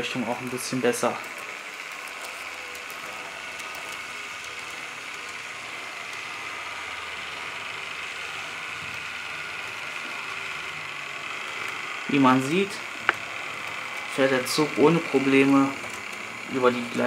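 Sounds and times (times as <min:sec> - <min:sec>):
model train motor whirring: 0:00.0 - 0:17.0.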